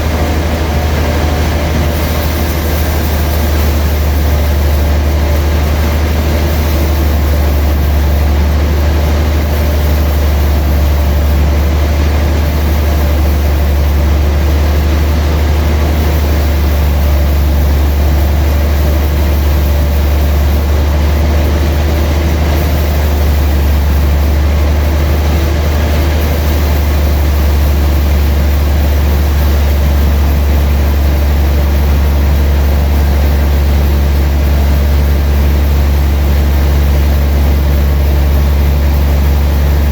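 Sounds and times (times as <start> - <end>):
sawmill machinery low drone: 0.0 - 39.9.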